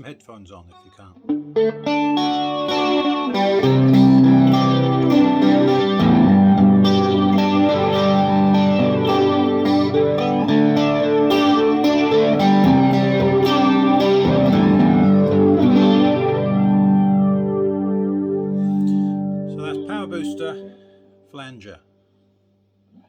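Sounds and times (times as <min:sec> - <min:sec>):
flanged electric guitar chords: 0:01.2 - 0:21.3.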